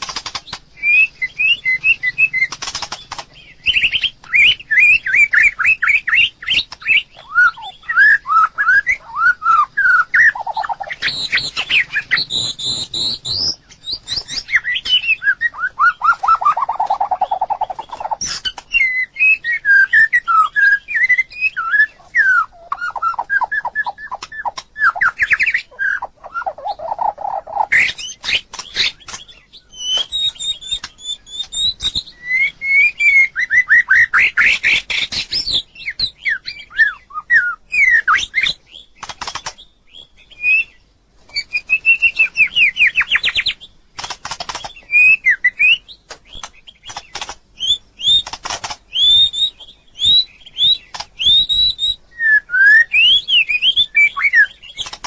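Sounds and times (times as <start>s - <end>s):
bird singing whistled phrases: 0.8s - 2.5s, 3.4s - 39.0s, 39.9s - 43.6s, 44.6s - 47.0s, 48.9s - 54.9s.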